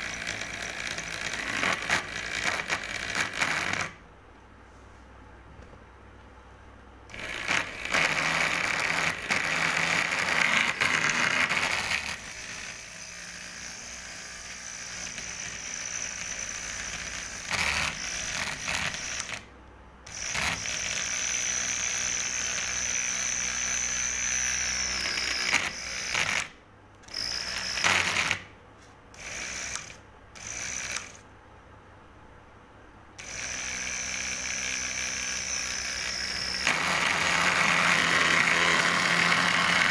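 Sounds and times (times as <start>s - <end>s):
small electric motor whirring: 0.0s - 3.9s, 7.1s - 19.5s, 20.1s - 28.4s, 29.2s - 31.2s, 33.2s - 39.9s.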